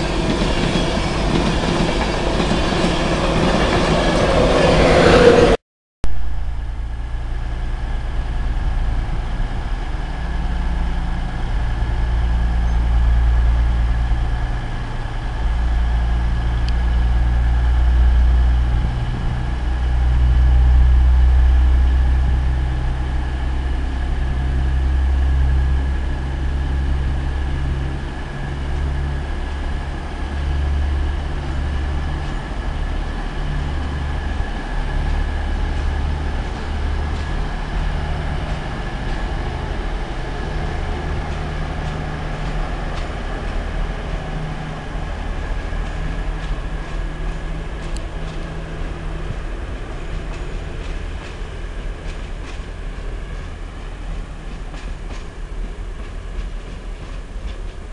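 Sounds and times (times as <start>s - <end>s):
diesel train engines rumbling: 0.0s - 5.6s, 6.4s - 57.9s.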